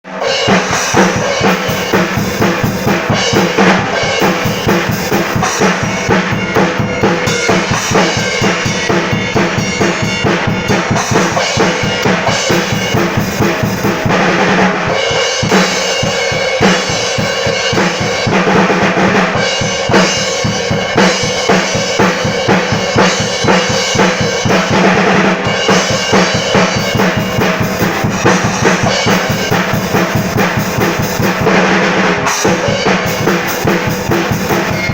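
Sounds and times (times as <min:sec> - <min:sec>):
snare drum: 0:00.4 - 0:14.8, 0:15.4 - 0:16.0, 0:20.9 - 0:34.9.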